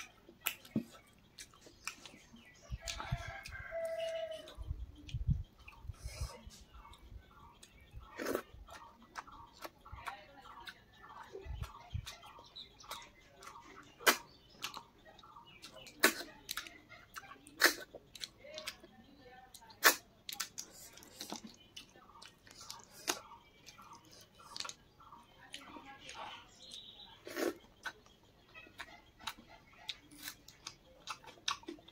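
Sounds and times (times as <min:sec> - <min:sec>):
person chewing: 0:00.0 - 0:10.8, 0:11.6 - 0:15.0, 0:15.6 - 0:18.9, 0:19.6 - 0:24.8, 0:26.6 - 0:31.9.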